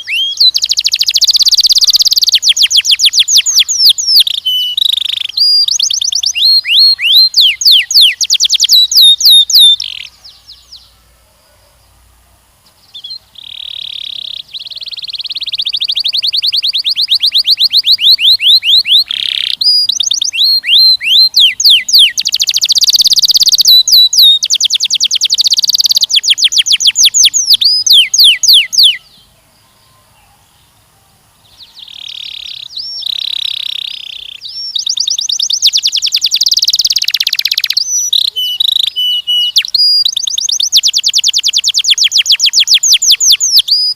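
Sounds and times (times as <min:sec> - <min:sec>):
canary singing: 0:00.0 - 0:11.1, 0:12.7 - 0:43.9.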